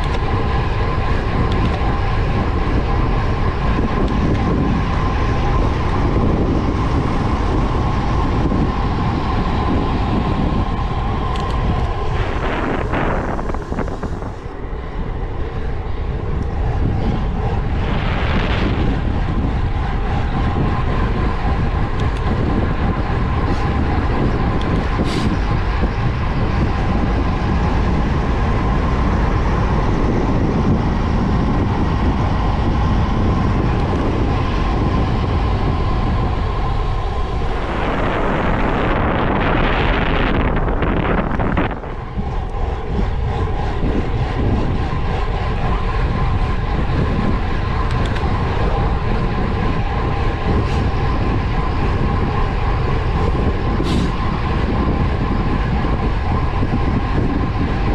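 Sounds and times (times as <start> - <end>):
bike tyres humming on asphalt: 0.0 - 57.9
wind rushing over microphone: 0.0 - 57.9.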